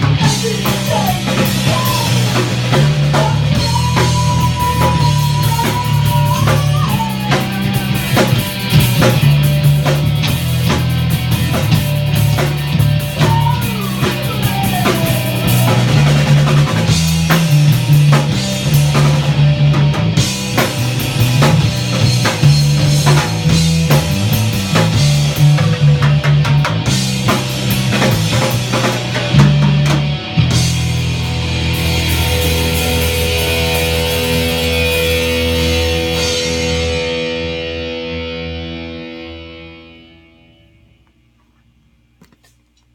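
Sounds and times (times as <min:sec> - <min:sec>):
bent lead guitar notes: 0:00.0 - 0:41.0
rock music: 0:00.0 - 0:41.0.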